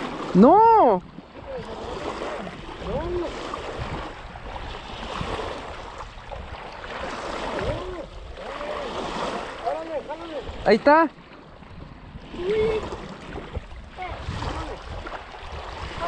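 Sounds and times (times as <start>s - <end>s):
waves lapping on gravel shore: 0.0s - 11.3s, 12.2s - 16.0s.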